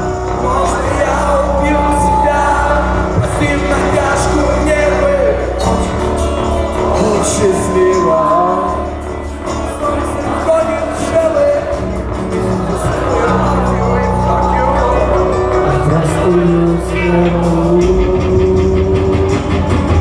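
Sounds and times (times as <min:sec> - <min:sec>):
live rock band playing: 0:00.0 - 0:20.0
person singing: 0:00.0 - 0:20.0.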